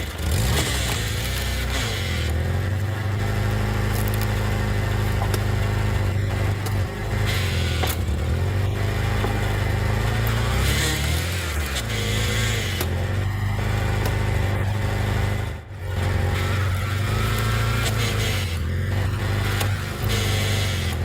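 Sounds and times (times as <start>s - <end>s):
log splitter engine humming: 0.0s - 21.0s.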